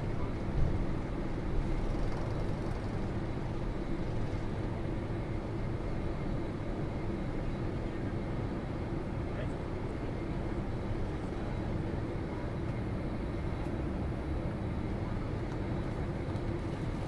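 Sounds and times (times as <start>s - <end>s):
airliner engine and airflow noise: 0.0s - 17.0s.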